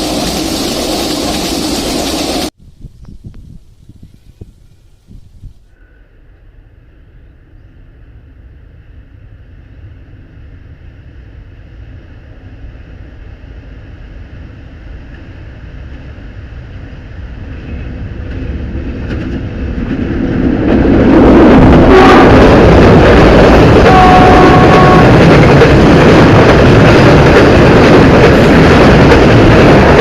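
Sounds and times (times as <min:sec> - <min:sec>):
train running on track: 0:00.0 - 0:02.6, 0:05.8 - 0:30.0.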